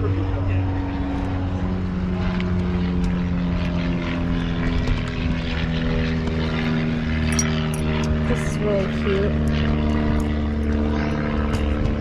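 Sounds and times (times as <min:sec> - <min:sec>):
motor drone: 0:00.0 - 0:12.0.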